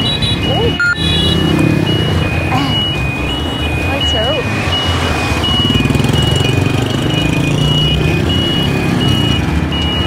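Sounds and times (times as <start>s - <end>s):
two-tone electronic beeper: 0.0s - 10.0s.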